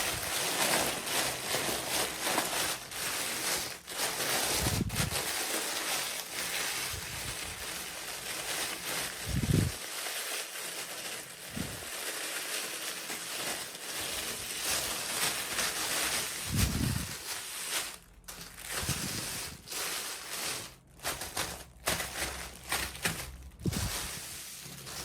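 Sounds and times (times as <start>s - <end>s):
packaging rustling and crinkling: 0.0s - 25.0s.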